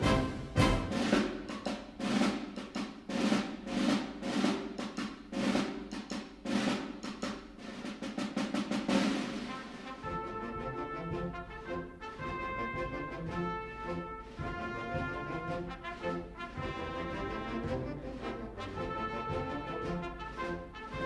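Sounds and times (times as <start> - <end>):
snare and bass drums marching: 0.0 - 21.0.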